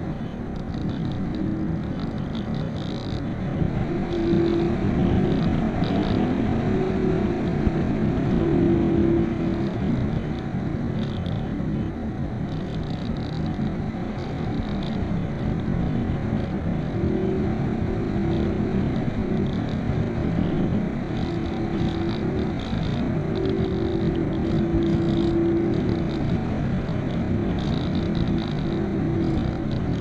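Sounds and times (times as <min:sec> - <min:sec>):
airflow rushing around glider: 0:00.0 - 0:30.0
faint low humming tone: 0:00.0 - 0:30.0.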